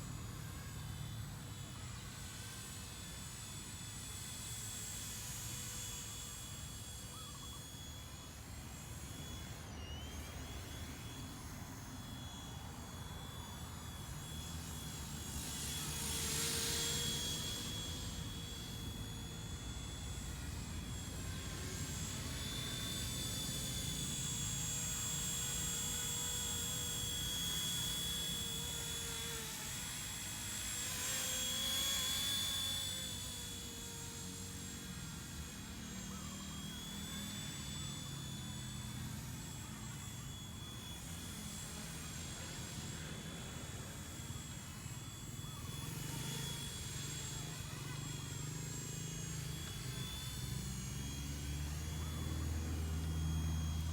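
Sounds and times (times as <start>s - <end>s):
high-pitched motor whine: 0.0s - 53.9s.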